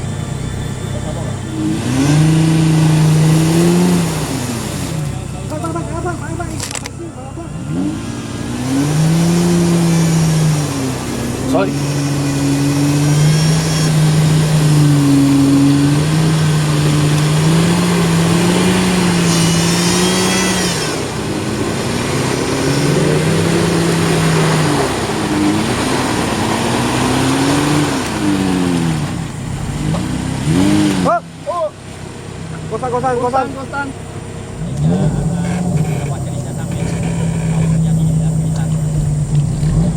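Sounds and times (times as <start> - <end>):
vehicle engine revving: 0.0 - 39.9.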